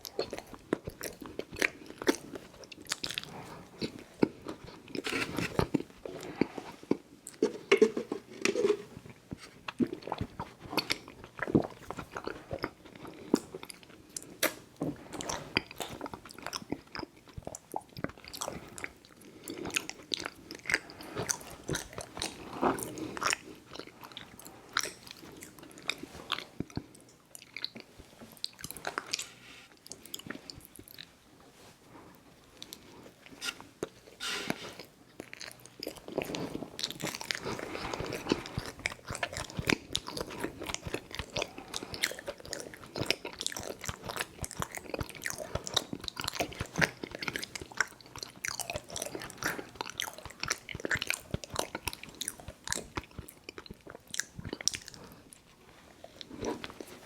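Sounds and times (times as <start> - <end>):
chewing and mouth smacking: 0.0 - 31.1, 35.1 - 57.0.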